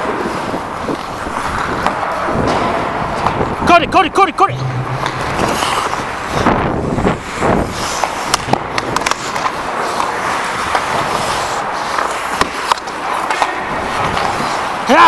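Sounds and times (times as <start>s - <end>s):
hockey sticks and puck clicking: 0.0s - 3.6s, 5.0s - 15.0s
skate blades scraping on ice: 0.0s - 3.6s, 4.8s - 15.0s.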